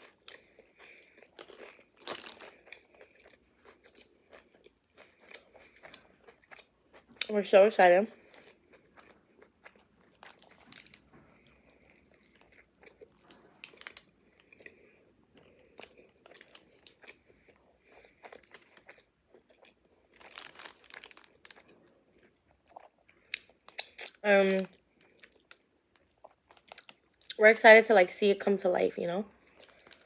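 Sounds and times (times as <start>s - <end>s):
chewing and crunching food: 0.0s - 27.5s, 29.3s - 30.0s.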